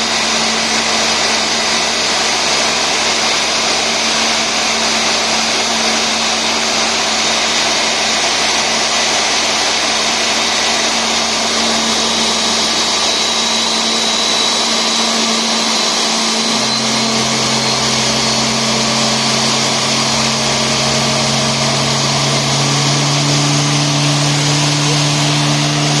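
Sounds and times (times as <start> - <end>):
high engine whine: 0.0 - 26.0
jet engines running: 0.0 - 26.0
low hum: 0.3 - 26.0.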